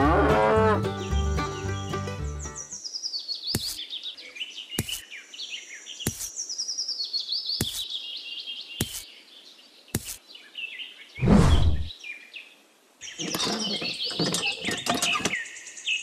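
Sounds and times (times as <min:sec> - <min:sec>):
birds chirping: 0:00.4 - 0:16.0.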